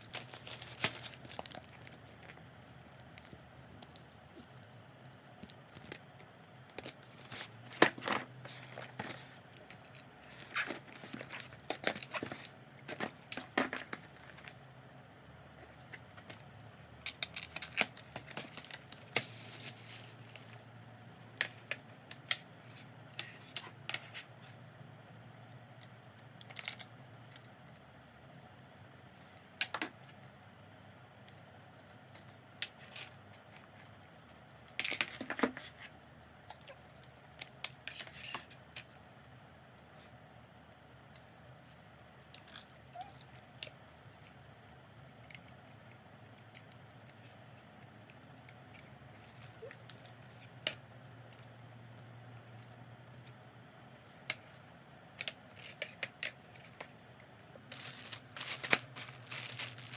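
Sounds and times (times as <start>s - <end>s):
faint room hum: 0.0s - 59.9s.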